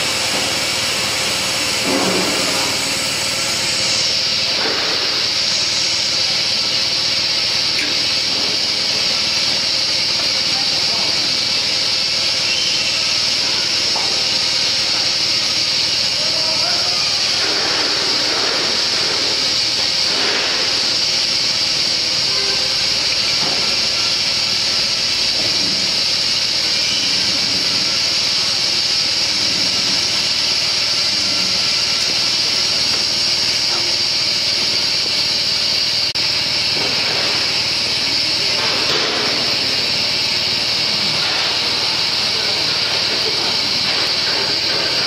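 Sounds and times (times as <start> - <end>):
machine hissing: 0.0 - 45.0.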